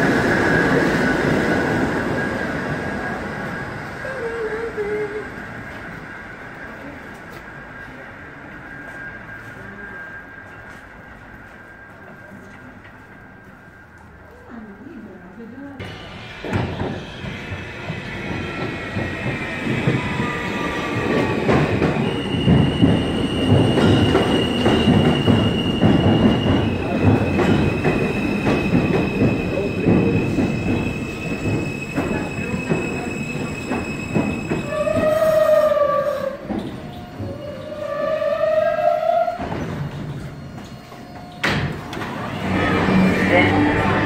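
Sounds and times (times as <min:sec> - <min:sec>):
subway train wheel and rail rumble: 0:00.0 - 0:44.0.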